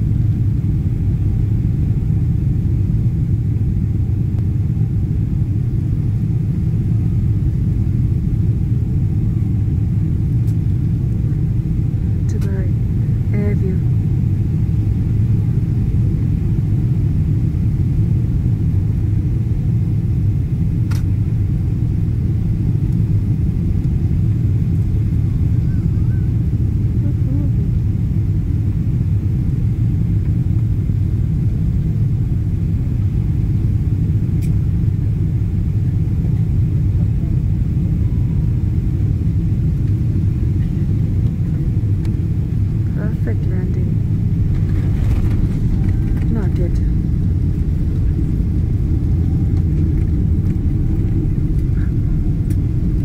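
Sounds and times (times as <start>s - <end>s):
airliner cabin engine rumble: 0.0s - 53.0s.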